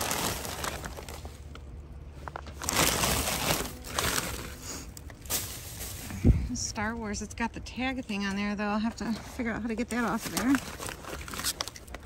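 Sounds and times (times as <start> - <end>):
plastic bags rustling and crinkling: 0.0 - 6.6, 9.0 - 12.0.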